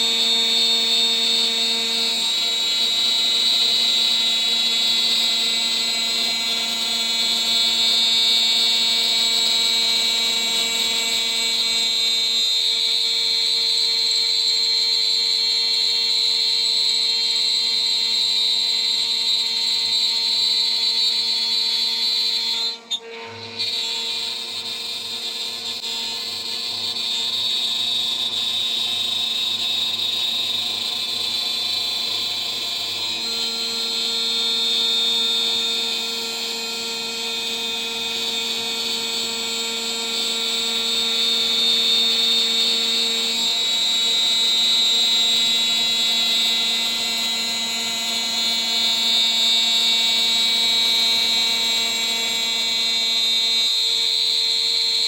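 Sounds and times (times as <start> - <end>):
router spindle machining whine: 0.0 - 55.0.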